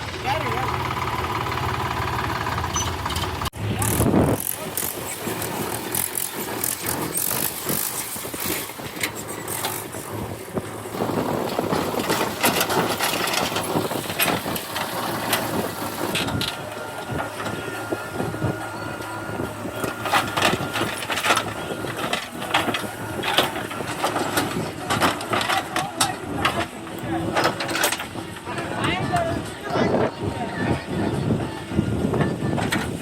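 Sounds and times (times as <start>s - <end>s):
diesel engine running: 0.0s - 33.0s
thin steady whine: 3.7s - 33.0s.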